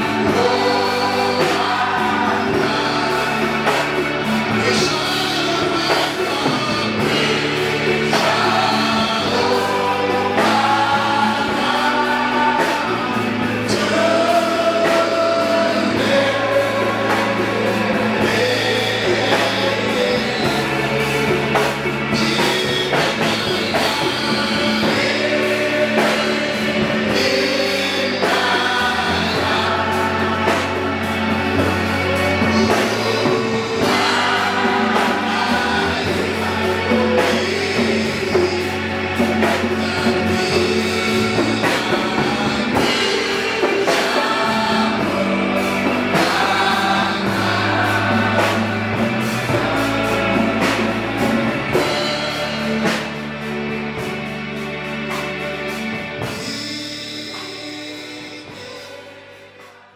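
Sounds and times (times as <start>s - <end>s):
congregation singing: 0.0s - 59.9s
steady drum beat: 0.0s - 59.9s
sustained bass notes: 0.0s - 59.9s.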